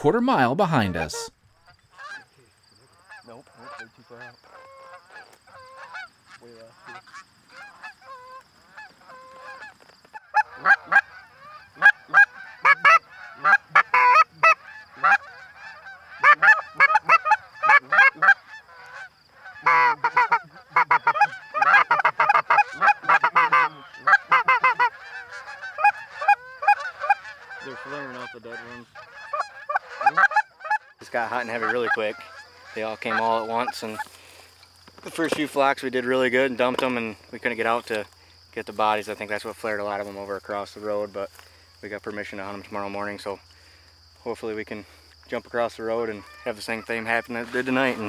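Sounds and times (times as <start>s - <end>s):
geese honking: 0.0s - 37.9s, 45.7s - 48.0s.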